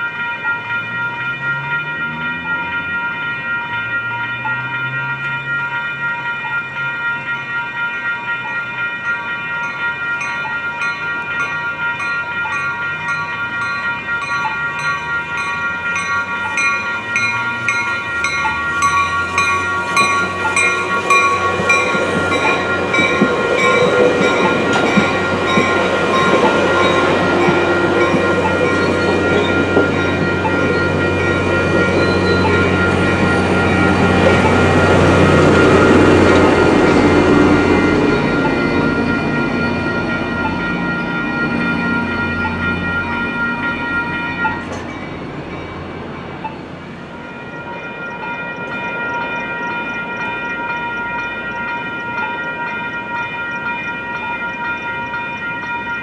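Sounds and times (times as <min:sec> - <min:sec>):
crossing warning bells ringing: 0:00.0 - 0:56.0
train rumbling past: 0:00.0 - 0:56.0.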